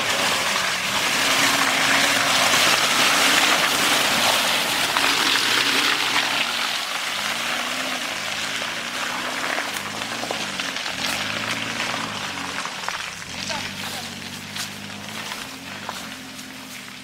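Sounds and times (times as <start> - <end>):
engine revving under load: 0.0 - 17.0
tyres churning wet mud: 0.0 - 17.0.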